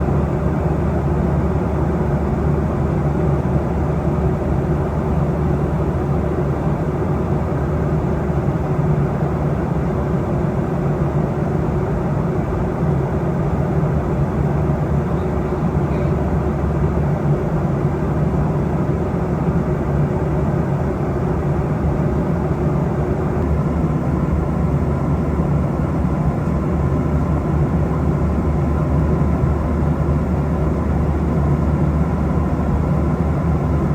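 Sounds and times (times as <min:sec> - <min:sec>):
airliner cabin drone: 0:00.0 - 0:33.9.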